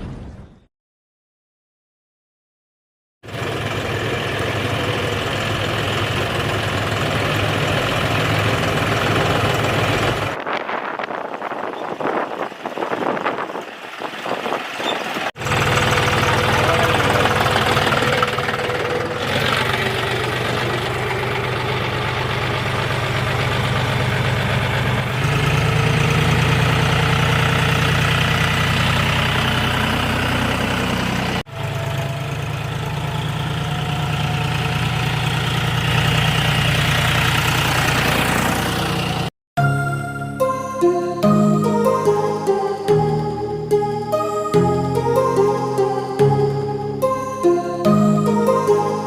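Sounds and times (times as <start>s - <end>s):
diesel tractor engine running: 3.3s - 49.0s.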